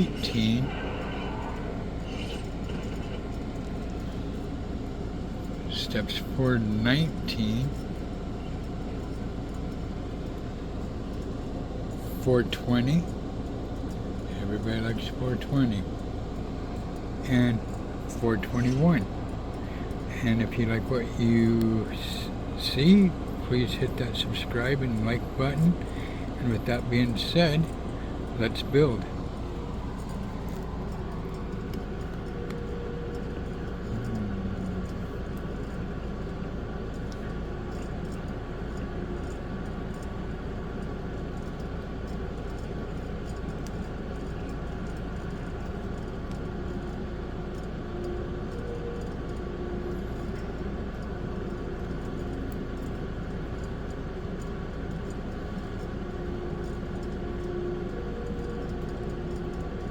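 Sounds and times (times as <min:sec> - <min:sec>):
background hum and hiss: 0:00.0 - 0:59.9.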